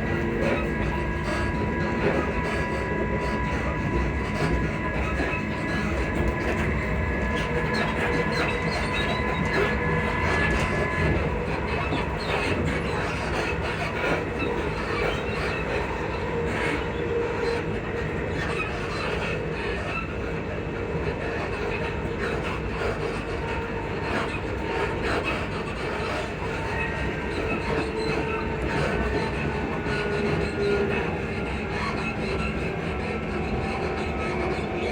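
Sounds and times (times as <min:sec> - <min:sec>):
train rail and running noise: 0:00.0 - 0:34.9.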